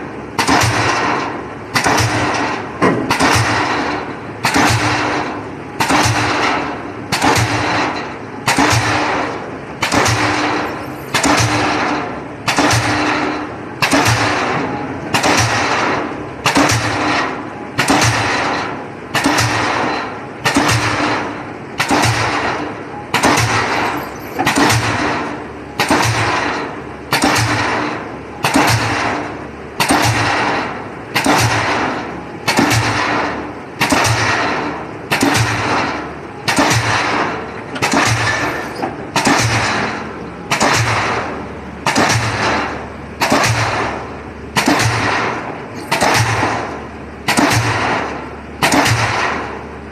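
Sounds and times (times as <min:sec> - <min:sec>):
pile-driving hammer pounding: 0:00.0 - 0:49.9.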